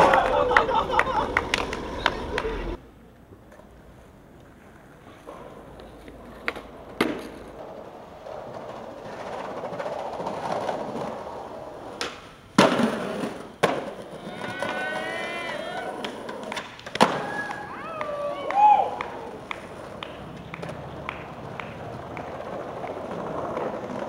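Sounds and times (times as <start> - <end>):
skateboard deck clacking: 0.0 - 2.8, 4.4 - 24.0
skateboard rolling on concrete: 0.0 - 24.0.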